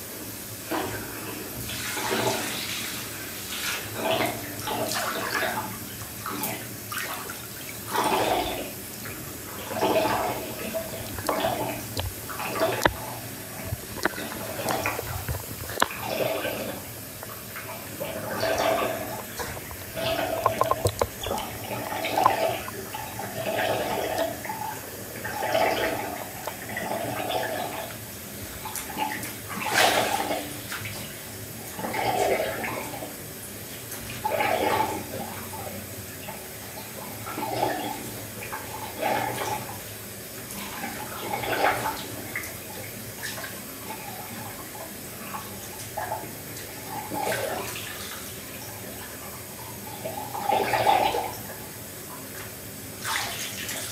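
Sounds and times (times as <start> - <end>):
water pouring into bathtub: 0.6 - 51.9, 53.0 - 53.9
water sloshing and splashing: 0.7 - 53.9.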